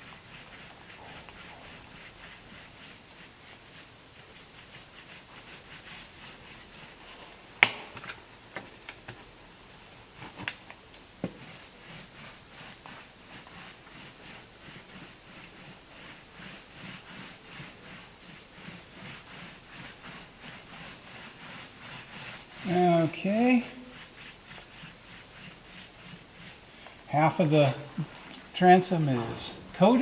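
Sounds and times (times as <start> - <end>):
roller rubbing on wood: 0.0 - 30.0.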